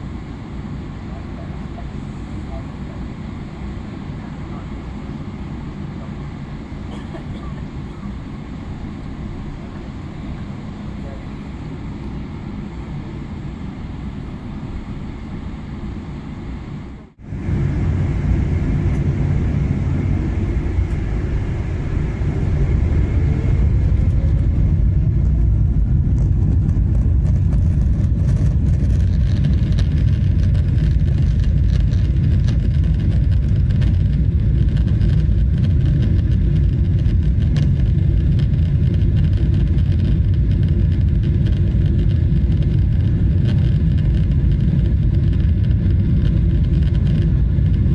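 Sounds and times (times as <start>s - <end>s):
jet engine rumble in cabin: 0.0s - 47.9s
jet engines spooling up whine: 0.0s - 47.9s.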